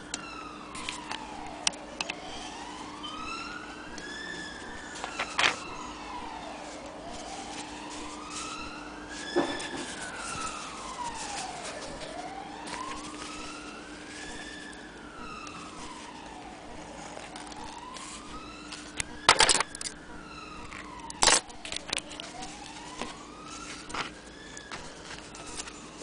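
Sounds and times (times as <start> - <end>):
siren wailing: 0.0 - 26.0.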